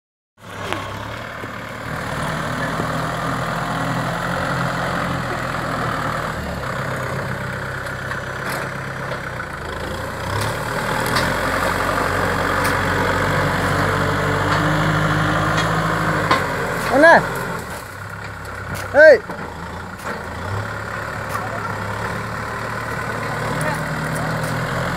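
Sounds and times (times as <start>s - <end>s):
tractor diesel engine running: 0.4s - 24.9s.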